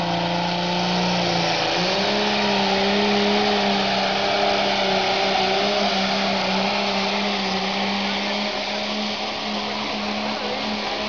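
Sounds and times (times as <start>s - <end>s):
tractor engine howling: 0.0s - 11.0s.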